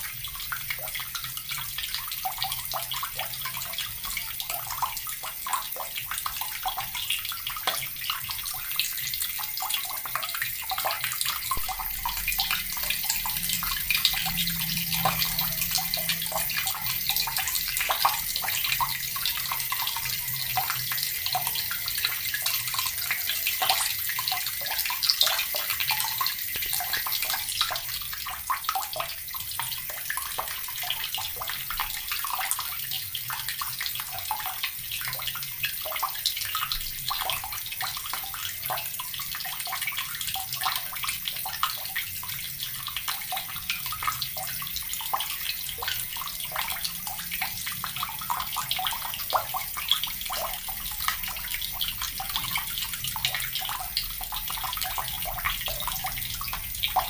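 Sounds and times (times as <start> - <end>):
tap water pouring into bucket: 0.0 - 57.0.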